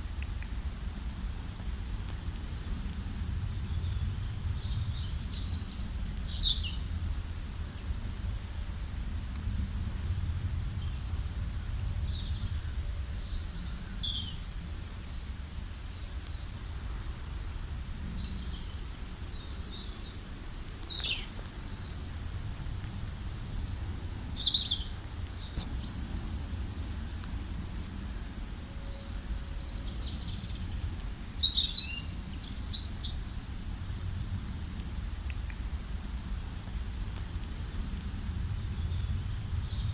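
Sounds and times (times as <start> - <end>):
low background rumble: 0.0 - 39.9.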